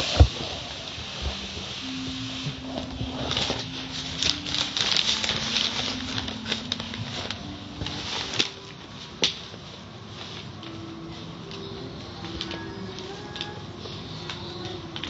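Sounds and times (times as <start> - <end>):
faint tune: 0.0 - 15.0.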